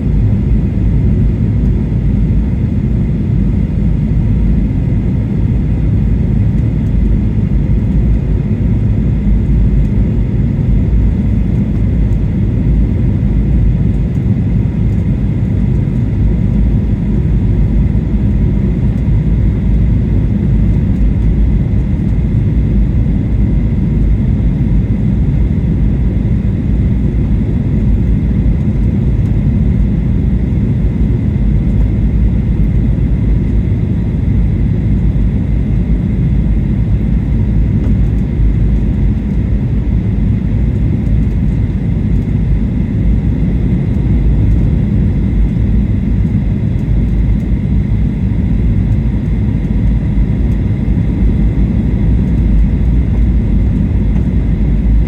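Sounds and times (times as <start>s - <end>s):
low rumble of engines and airflow: 0.0s - 55.0s.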